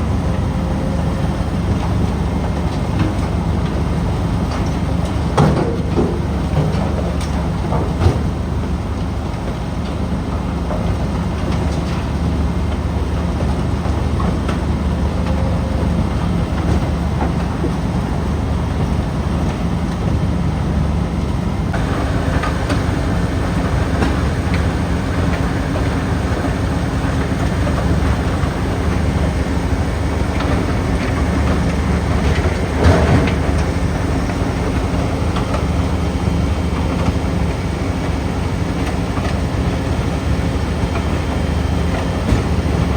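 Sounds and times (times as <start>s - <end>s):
diesel engine drone: 5.9s - 42.9s.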